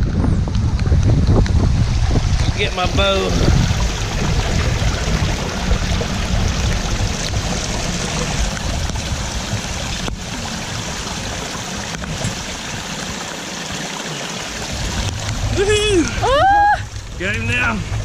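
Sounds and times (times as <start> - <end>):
wind buffeting microphone: 0.0 - 13.3, 14.5 - 18.0
heavy rain: 0.0 - 18.0
running floodwater: 0.0 - 18.0.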